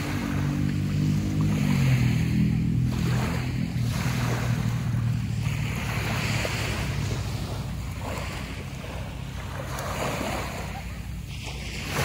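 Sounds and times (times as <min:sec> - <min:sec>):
sea waves washing onto beach: 0:00.0 - 0:12.0
steady low rumble: 0:00.0 - 0:12.0.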